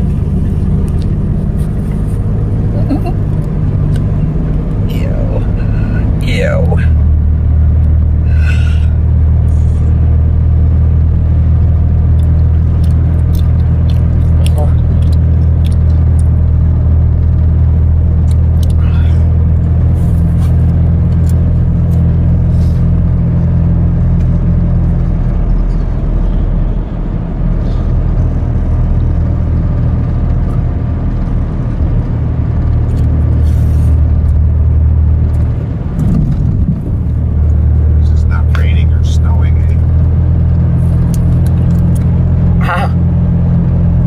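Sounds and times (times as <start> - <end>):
road noise: 0.0 - 44.0
truck engine drone: 0.0 - 44.0.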